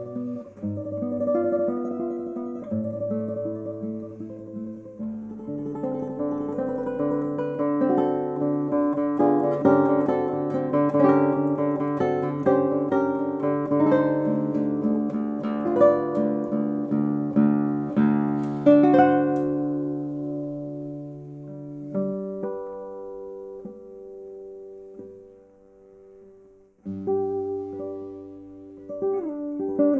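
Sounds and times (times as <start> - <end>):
fingerstyle classical guitar: 0.0 - 29.9.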